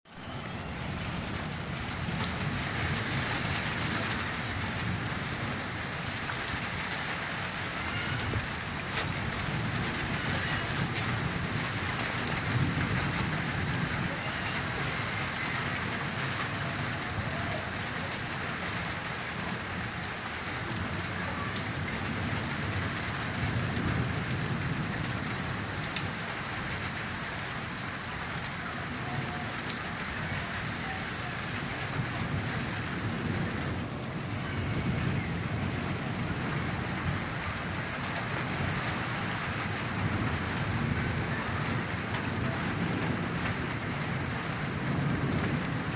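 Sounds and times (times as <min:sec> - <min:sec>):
heavy rain on hard surfaces: 0:00.0 - 0:45.9.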